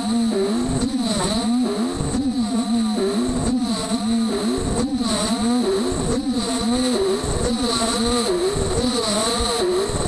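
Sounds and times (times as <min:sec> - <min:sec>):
high spindle whine: 0:00.0 - 0:10.0.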